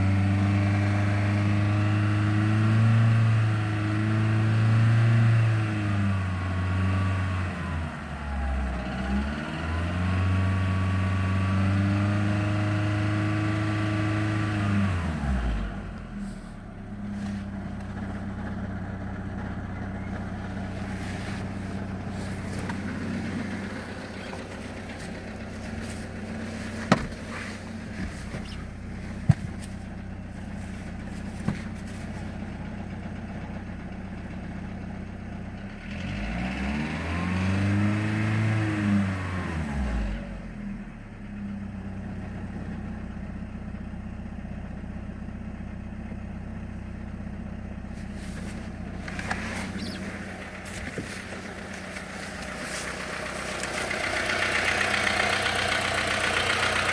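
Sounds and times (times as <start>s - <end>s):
car engine idling and revving: 0.0s - 56.9s.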